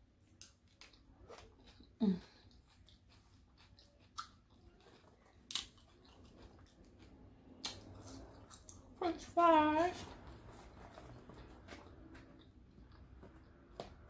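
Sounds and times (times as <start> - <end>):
chewing fried food: 0.0 - 14.0.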